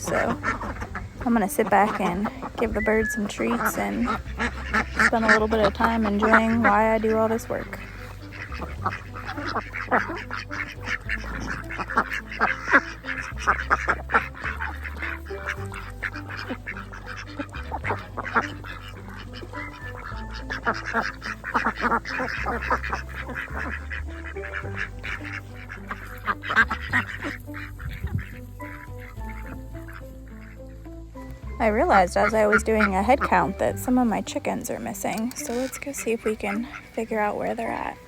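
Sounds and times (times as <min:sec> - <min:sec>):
background music with low notes: 0:00.0 - 0:38.0
chickens calling: 0:00.0 - 0:38.0
ducks quacking: 0:00.0 - 0:38.0.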